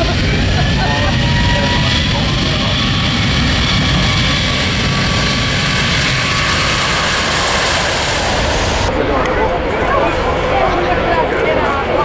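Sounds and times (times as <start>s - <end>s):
faint engine whine: 0.0s - 11.9s
aircraft engines roaring: 0.0s - 12.0s.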